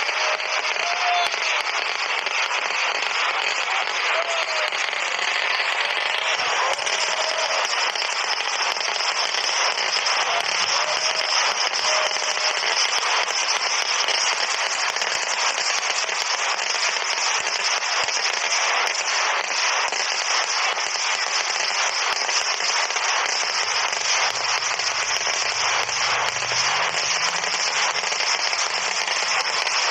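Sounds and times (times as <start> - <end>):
firecrackers crackling barrage: 0.0 - 29.9.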